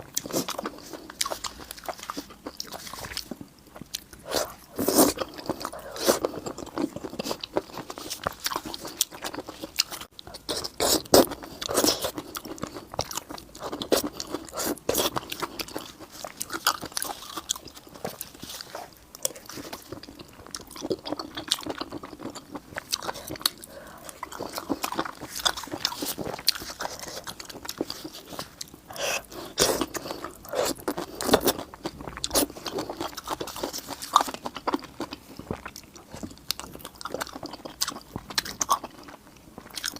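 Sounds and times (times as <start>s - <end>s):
person crunching and chewing food: 0.0s - 39.9s.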